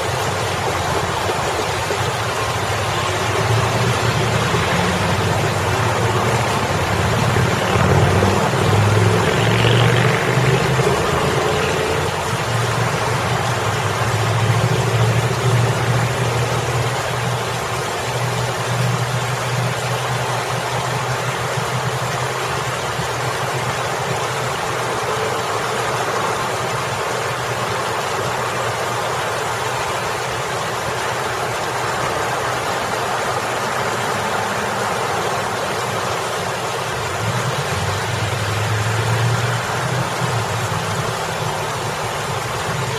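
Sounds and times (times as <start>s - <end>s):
road traffic hum: 0.0s - 42.9s
water splashing over a fountain: 0.0s - 42.9s.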